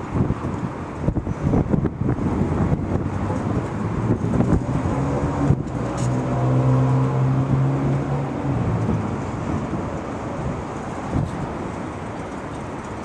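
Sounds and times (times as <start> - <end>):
steady rumble: 0.0 - 13.0.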